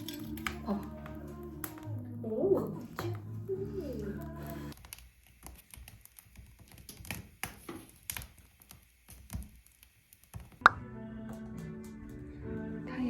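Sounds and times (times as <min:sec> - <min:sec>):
firewood crackling in a stove: 0:00.0 - 0:13.0.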